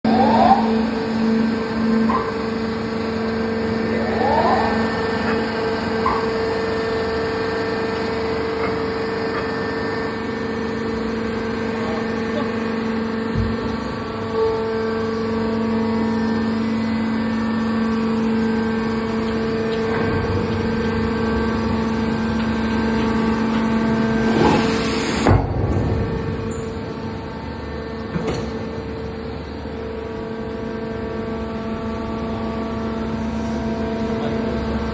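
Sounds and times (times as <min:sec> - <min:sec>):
baler machine humming: 0:00.1 - 0:34.9.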